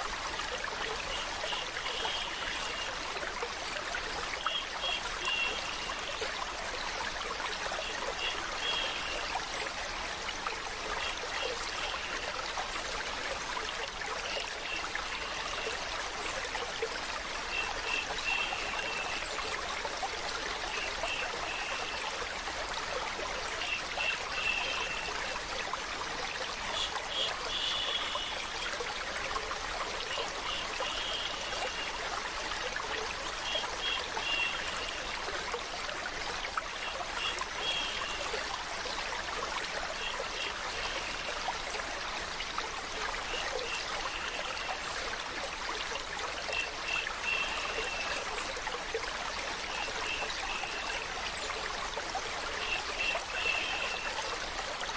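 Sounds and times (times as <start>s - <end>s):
stream water running: 0.0s - 54.9s.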